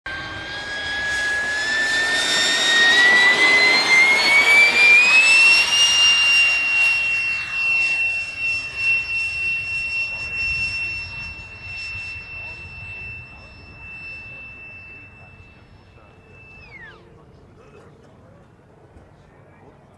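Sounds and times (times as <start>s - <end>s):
model jet fan whining: 0.1s - 17.6s.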